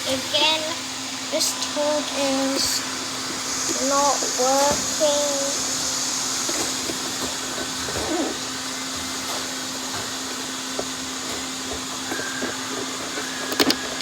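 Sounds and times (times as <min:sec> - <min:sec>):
robot vacuum cleaner running: 0:00.0 - 0:14.0.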